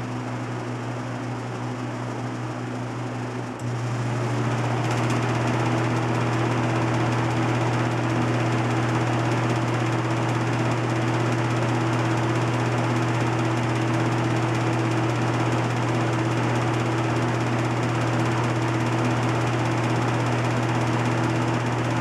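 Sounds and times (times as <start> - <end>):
box fan motor hum: 0.0 - 22.0.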